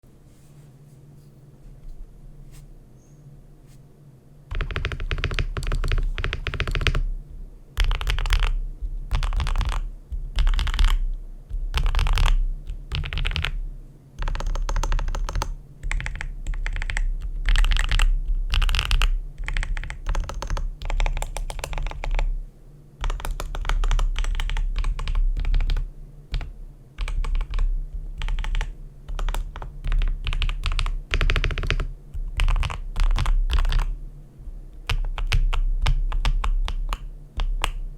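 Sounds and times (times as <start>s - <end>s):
mechanical keyboard typing: 4.5s - 7.1s, 7.8s - 13.6s, 14.2s - 22.3s, 23.0s - 34.0s, 34.8s - 37.9s.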